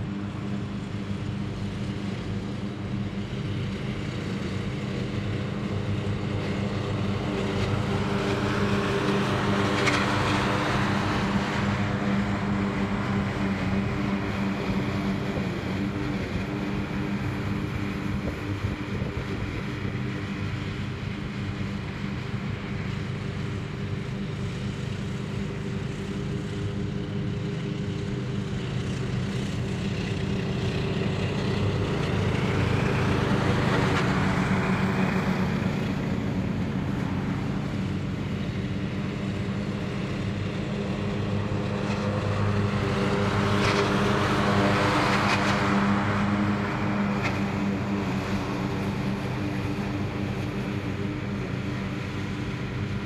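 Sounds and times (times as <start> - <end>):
riding lawn mower engines: 0.0 - 53.0.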